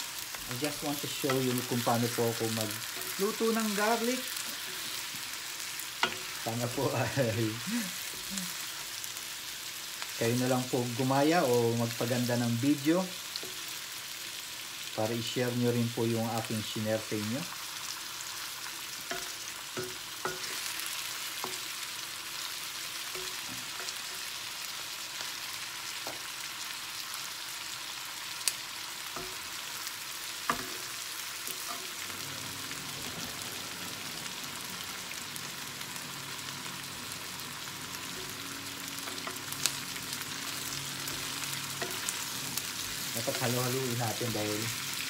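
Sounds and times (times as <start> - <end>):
food sizzling in oil: 0.0 - 45.0.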